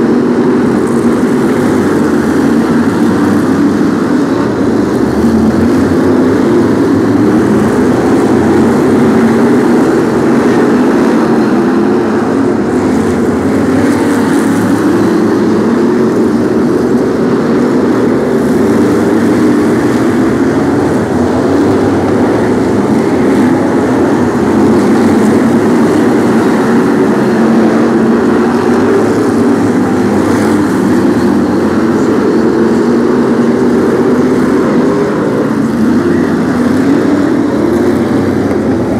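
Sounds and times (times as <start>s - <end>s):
race car engines roaring: 0.0s - 38.9s.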